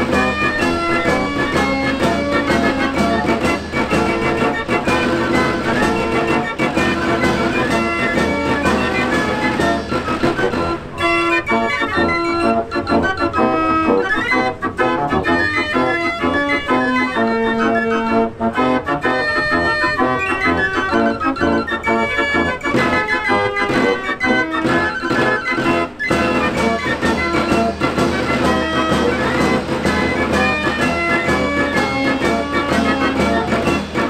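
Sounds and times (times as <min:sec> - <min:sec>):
fair organ playing a tune: 0:00.0 - 0:34.0.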